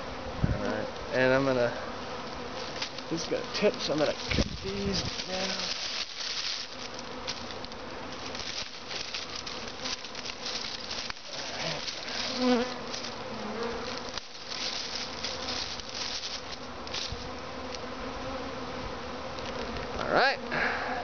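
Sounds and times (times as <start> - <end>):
bee swarm buzzing: 0.0 - 21.0.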